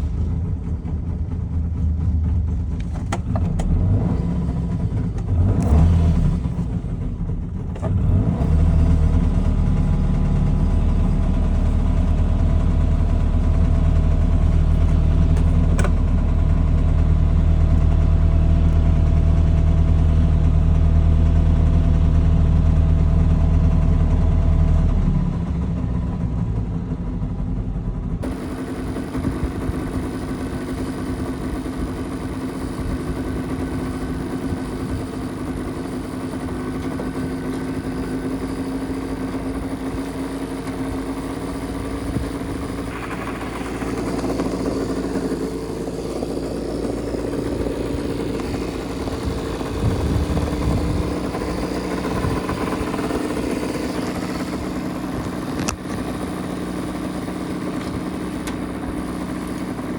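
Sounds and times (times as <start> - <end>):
two-stroke car engine idling: 0.0 - 59.9.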